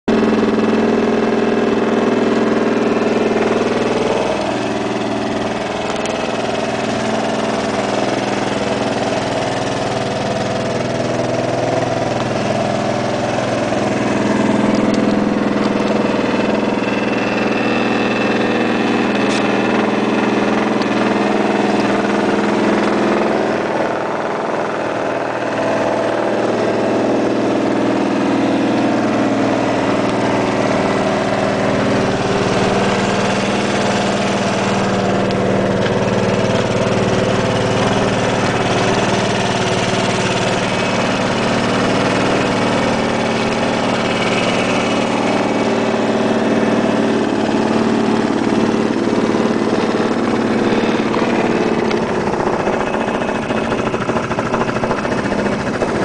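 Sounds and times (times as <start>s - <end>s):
scooter engine idling: 0.0s - 56.0s.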